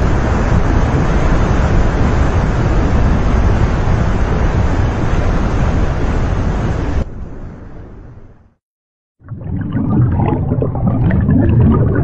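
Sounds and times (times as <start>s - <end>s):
stream rushing with low rumble: 0.0s - 8.6s, 9.3s - 12.0s.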